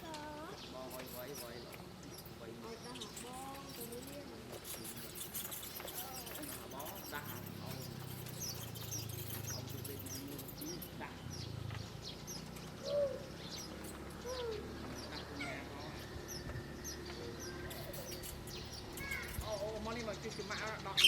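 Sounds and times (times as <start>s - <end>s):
lower louder bird calls: 0.0s - 21.0s
small birds chirping: 0.0s - 21.0s.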